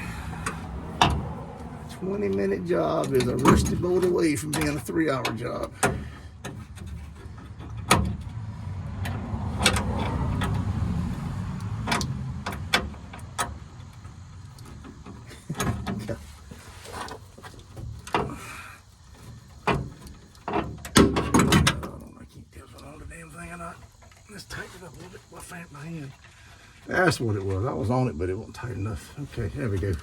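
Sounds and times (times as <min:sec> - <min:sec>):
hand tools clanking on metal: 0:00.0 - 0:08.4, 0:11.8 - 0:27.6.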